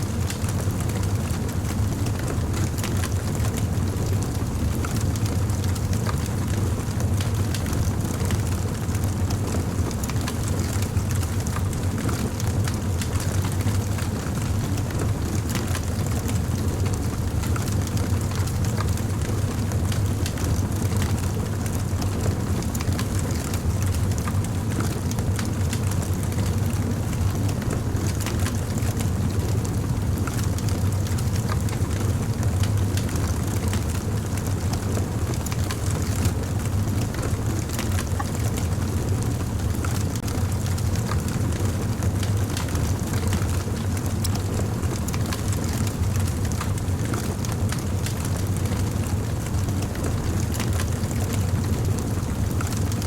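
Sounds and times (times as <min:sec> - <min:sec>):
wood fire crackling: 0:00.1 - 0:53.0.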